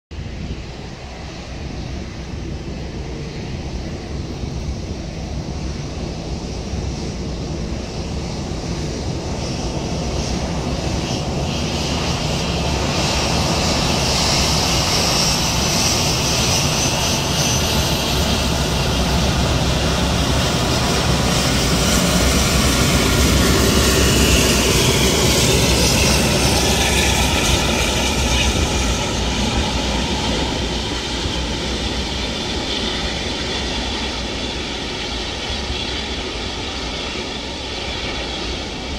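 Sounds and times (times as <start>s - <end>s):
jet engines taxiing whine: 0.2s - 38.9s.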